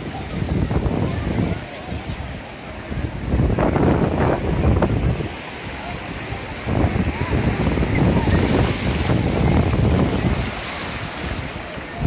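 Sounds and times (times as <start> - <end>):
surf washing over sand: 0.0 - 12.0
wind buffeting microphone: 0.0 - 12.0.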